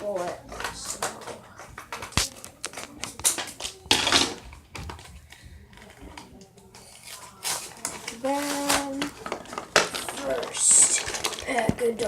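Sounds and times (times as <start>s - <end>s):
loud packaging rustle: 0.0s - 12.0s
packaging clicking and handling: 0.0s - 12.0s
scissors snipping plastic: 0.2s - 5.1s, 5.8s - 12.0s.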